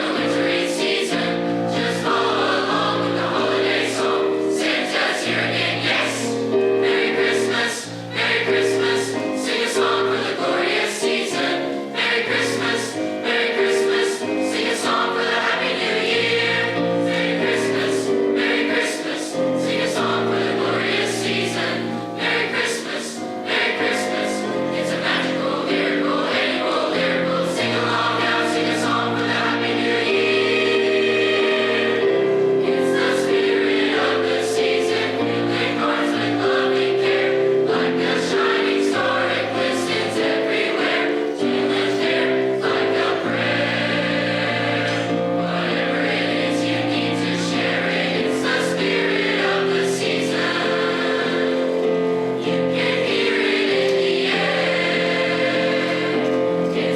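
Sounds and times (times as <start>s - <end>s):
choir singing: 0.0s - 56.9s.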